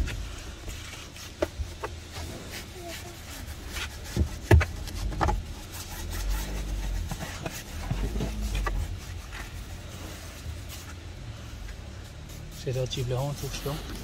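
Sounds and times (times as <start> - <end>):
brush scrubbing a car: 0.0 - 14.0.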